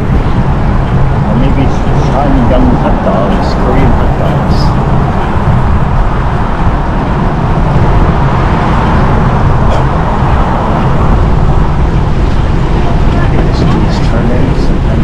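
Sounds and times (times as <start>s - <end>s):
city street traffic rumble: 0.0s - 15.0s.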